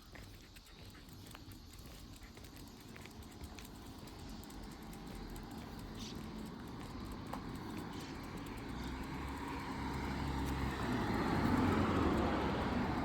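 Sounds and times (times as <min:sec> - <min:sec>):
motor vehicle approaching: 0:00.2 - 0:13.0.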